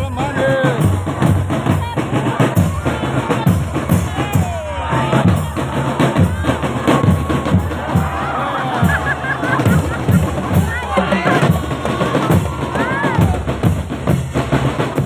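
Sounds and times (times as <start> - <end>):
voices calling: 0.0 - 13.7
marching drum band: 0.0 - 15.0.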